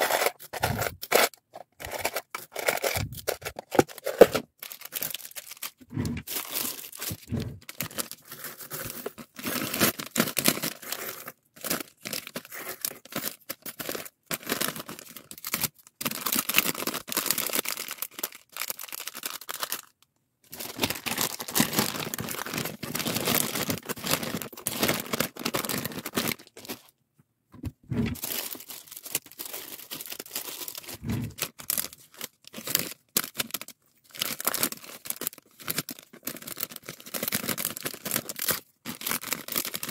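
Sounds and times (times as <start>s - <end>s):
plastic bags crinkling: 0.0s - 19.9s, 20.5s - 26.9s, 28.2s - 39.9s.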